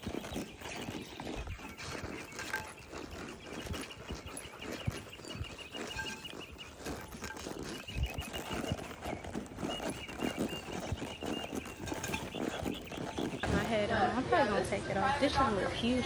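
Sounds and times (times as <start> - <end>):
horse hooves clopping: 0.0 - 14.1.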